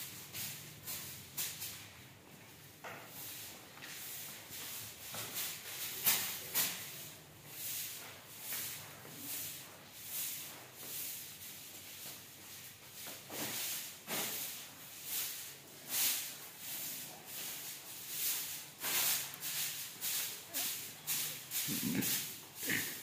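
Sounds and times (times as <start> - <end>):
broom sweeping tile floor: 0.0 - 23.0.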